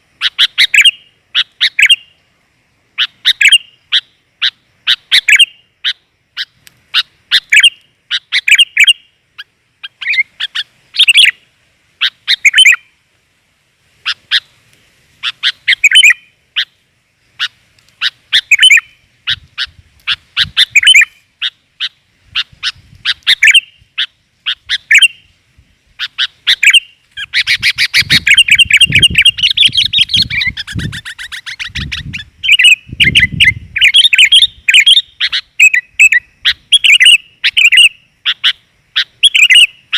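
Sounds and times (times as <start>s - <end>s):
rapid bird chatter: 0.0s - 2.2s, 3.0s - 12.9s, 14.0s - 25.4s, 26.0s - 39.9s
bird chirping phrases: 0.2s - 2.2s, 3.0s - 13.0s, 15.2s - 25.4s, 26.0s - 39.9s.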